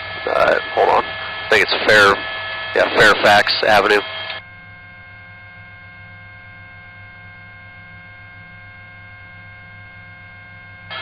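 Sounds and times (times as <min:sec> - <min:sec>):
electrical hum: 0:00.0 - 0:11.0
faint whining tones: 0:00.0 - 0:11.0.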